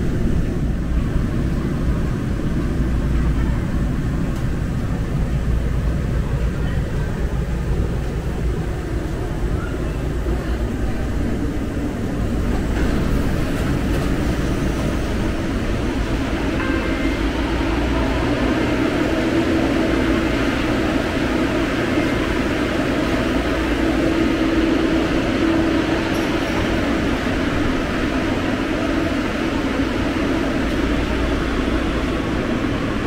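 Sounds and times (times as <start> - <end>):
light-rail car rumble and hiss: 0.0 - 33.0.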